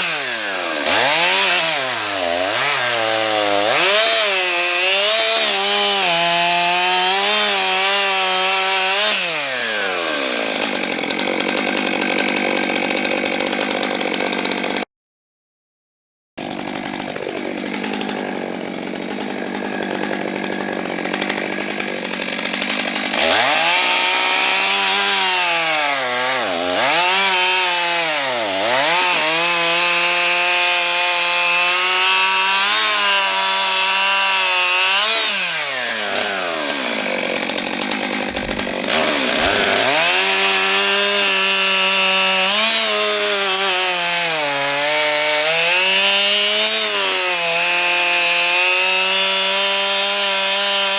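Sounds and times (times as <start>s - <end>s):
chainsaw cutting logs: 0.0s - 14.9s, 16.4s - 50.9s.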